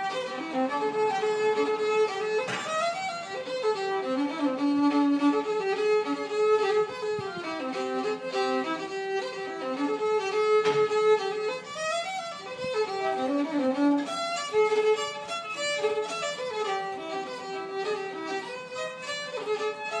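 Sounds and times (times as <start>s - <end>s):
solo fiddle tune: 0.0s - 20.0s.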